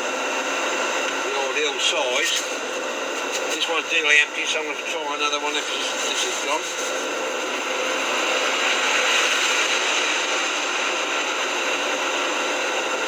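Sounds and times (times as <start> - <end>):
faint hum: 0.0 - 13.0
fan heater whooshing: 0.0 - 13.0.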